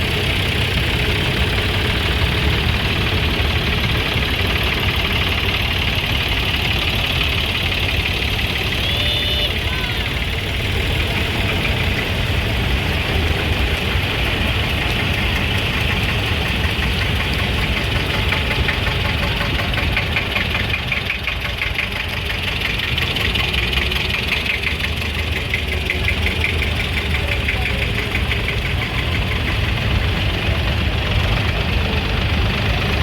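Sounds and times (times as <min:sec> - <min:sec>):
engine idling with knocking beat: 0:00.0 - 0:33.0.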